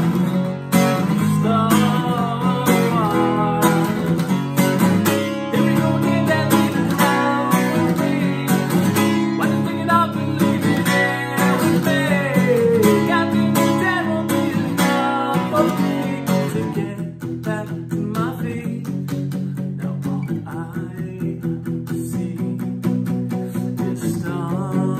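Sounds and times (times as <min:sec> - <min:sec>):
acoustic guitar strumming: 0:00.0 - 0:24.9
man singing: 0:00.9 - 0:24.9.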